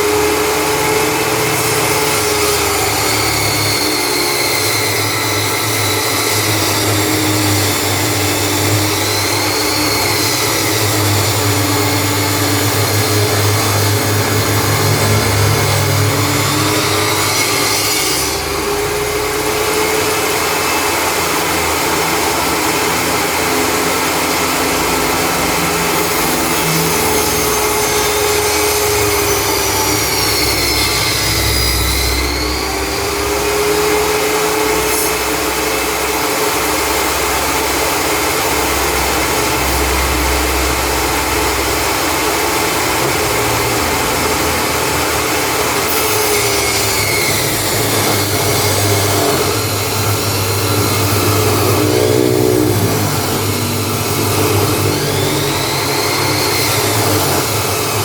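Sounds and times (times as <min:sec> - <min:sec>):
table saw cutting wood: 0:00.0 - 0:58.0.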